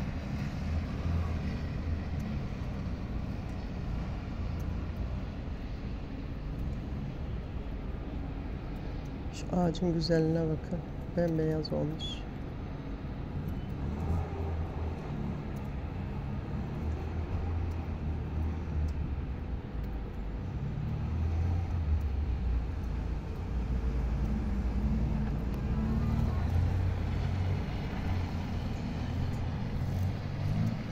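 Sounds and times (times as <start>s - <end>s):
faint street noise: 0.0s - 30.9s
vehicle engine rumbling: 0.0s - 30.9s.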